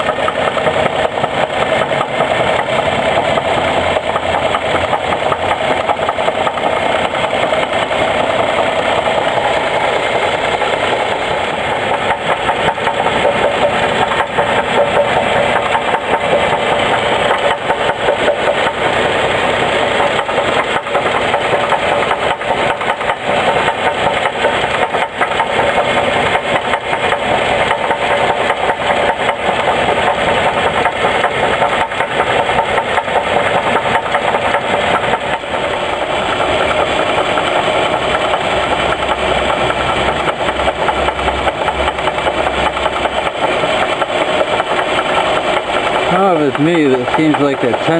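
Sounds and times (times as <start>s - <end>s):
belt tensioner jumping: 0.0s - 47.9s
car engine running with knocking: 0.0s - 47.9s.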